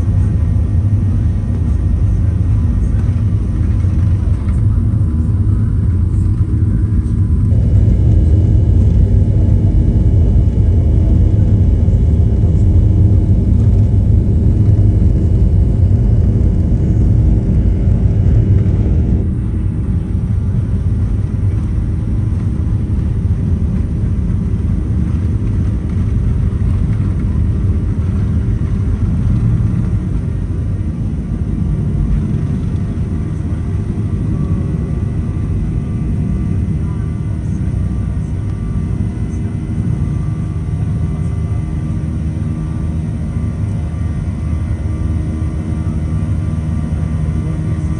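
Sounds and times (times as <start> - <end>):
jet engine rumble in cabin: 0.0 - 47.9.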